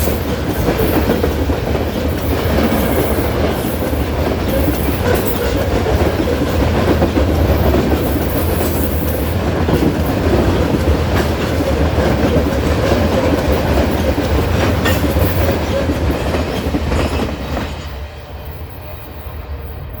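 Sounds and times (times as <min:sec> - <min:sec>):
clickety-clack over rail joints: 0:00.0 - 0:19.3
freight train wheels rumbling: 0:00.0 - 0:20.0.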